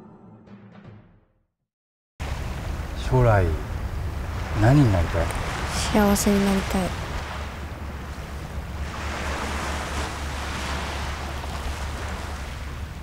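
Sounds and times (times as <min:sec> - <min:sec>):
waves washing onto beach: 0:02.2 - 0:13.0
wind rumble on microphone: 0:02.2 - 0:13.0.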